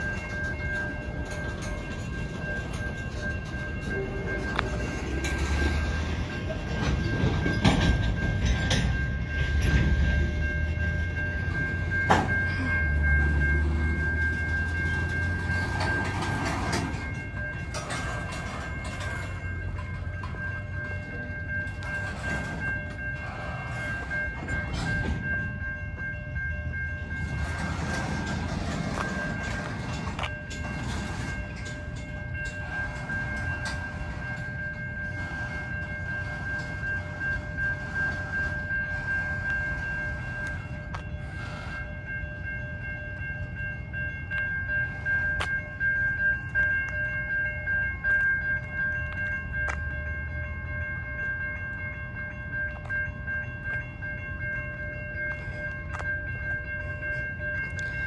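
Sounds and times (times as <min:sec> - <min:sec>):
freight train rumbling past: 0:00.0 - 0:58.0
high ringing tone: 0:00.0 - 0:58.0.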